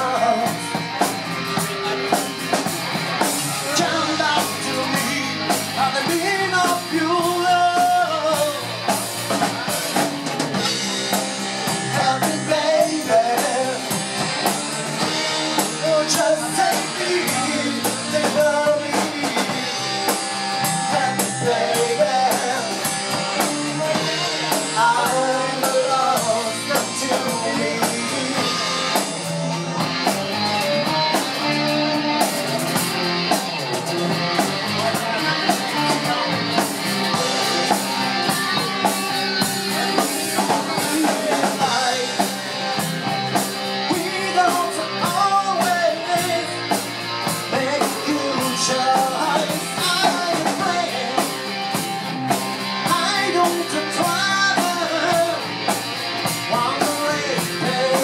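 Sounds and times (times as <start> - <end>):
man singing: 0.0 - 2.4, 3.4 - 29.8, 34.4 - 58.0
drum kit: 0.0 - 58.0
electric guitars: 0.0 - 58.0.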